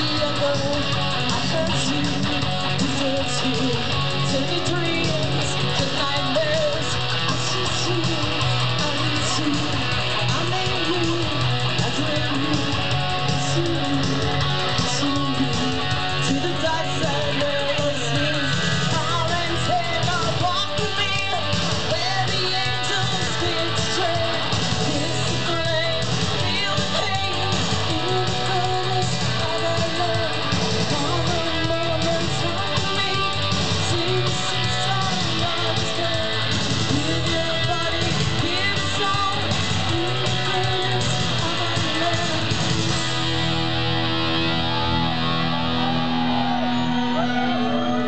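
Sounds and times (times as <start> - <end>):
woman singing: 0.0 - 43.0
rock band playing live: 0.0 - 48.0.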